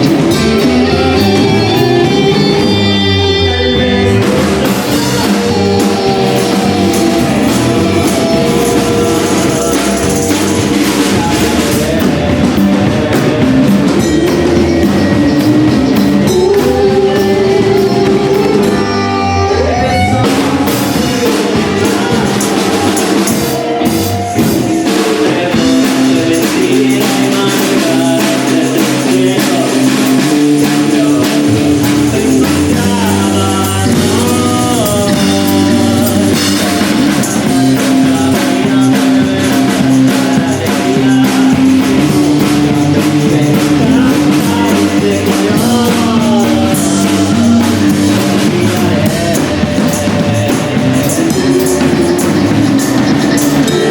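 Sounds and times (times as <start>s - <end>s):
drum kit: 0.0s - 53.9s
electric guitar: 0.0s - 53.9s.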